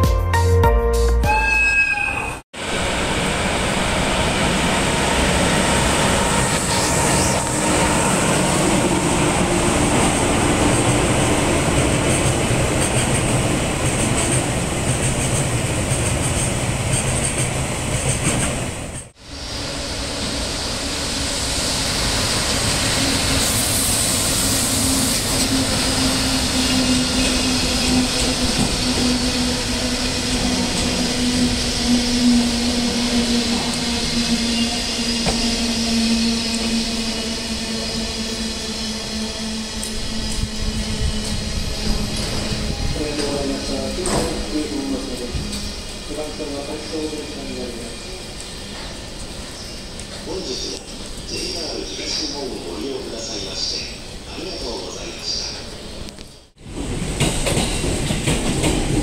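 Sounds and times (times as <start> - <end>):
freight train wheels rumbling on rails: 2.6 - 59.0.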